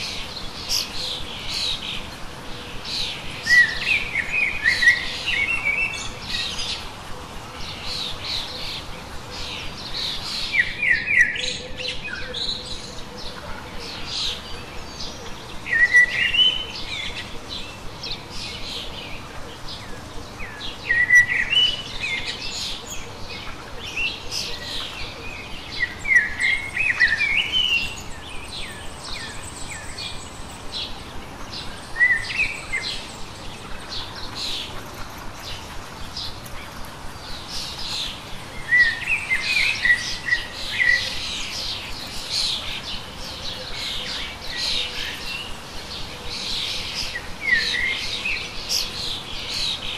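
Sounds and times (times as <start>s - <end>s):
birds chirping and singing: 0.0s - 49.9s.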